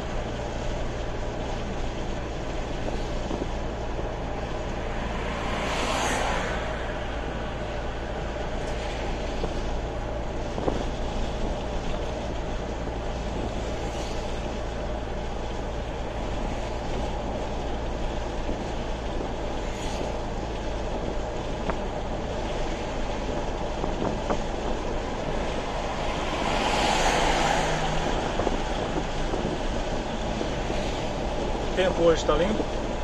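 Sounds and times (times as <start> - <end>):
car engine and tyre rumble: 0.0 - 33.0.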